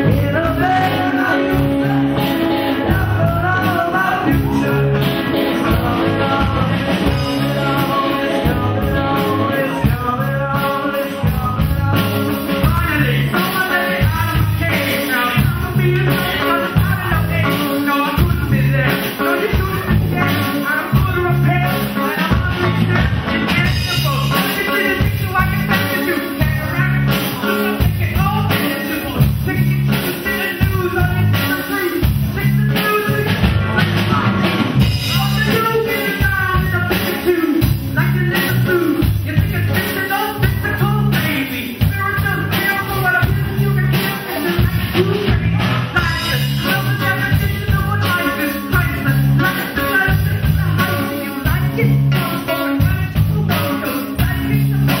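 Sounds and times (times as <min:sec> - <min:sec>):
live rock band playing: 0:00.0 - 0:55.0
man singing into microphone: 0:00.0 - 0:55.0.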